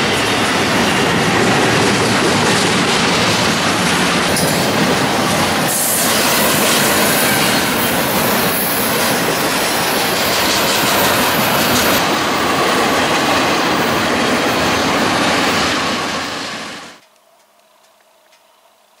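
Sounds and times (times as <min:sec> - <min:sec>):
freight train wheels rolling on rails: 0:00.0 - 0:18.2.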